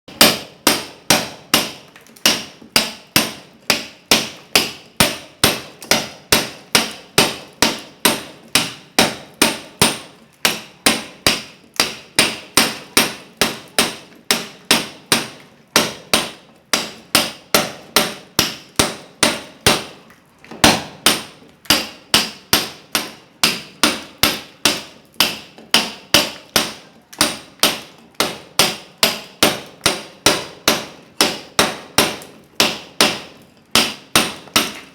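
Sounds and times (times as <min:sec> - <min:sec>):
hammer striking steel chisel: 0:00.1 - 0:19.9, 0:20.6 - 0:34.9.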